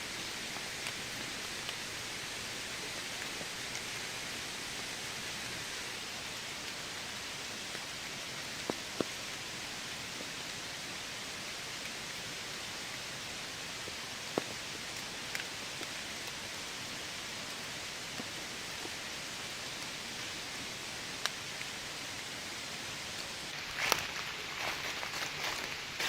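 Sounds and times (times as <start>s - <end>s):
rain falling in a forest: 0.0s - 26.0s.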